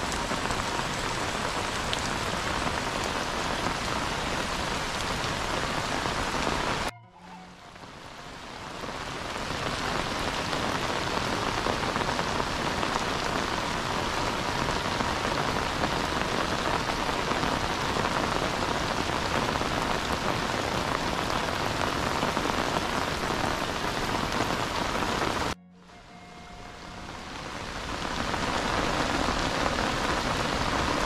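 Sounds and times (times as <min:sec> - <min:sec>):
heavy rain on water: 0:00.0 - 0:06.9, 0:07.7 - 0:31.0.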